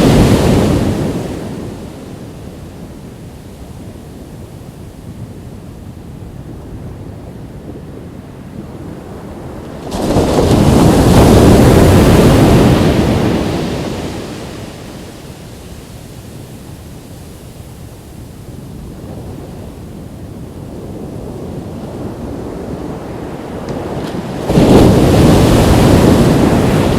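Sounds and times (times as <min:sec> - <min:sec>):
ocean waves breaking: 0:00.0 - 0:07.0, 0:07.9 - 0:26.9
wind buffeting microphone: 0:00.0 - 0:26.9.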